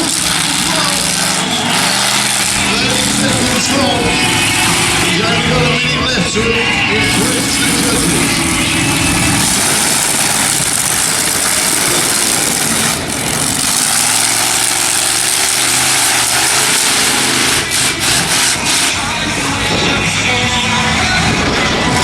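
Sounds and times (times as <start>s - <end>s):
loud rushing noise: 0.0s - 22.0s
truck engine revving: 0.0s - 22.0s.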